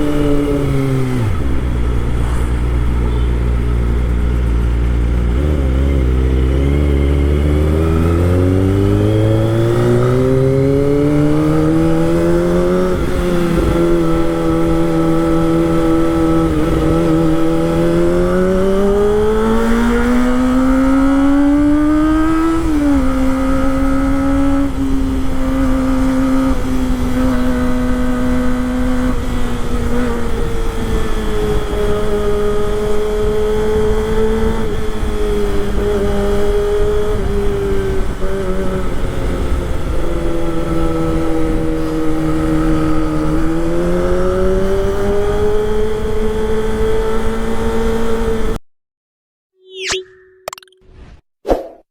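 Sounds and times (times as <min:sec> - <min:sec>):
motorcycle engine under way: 0:00.0 - 0:48.6.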